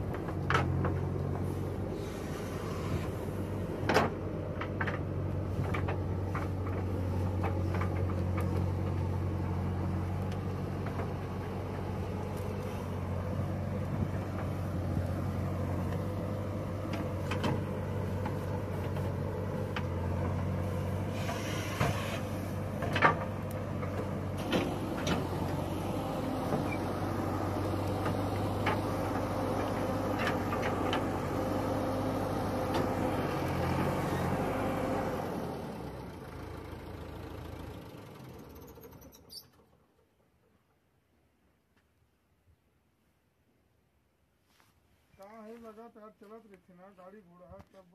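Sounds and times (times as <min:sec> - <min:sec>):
diesel engine running: 0:00.0 - 0:40.5.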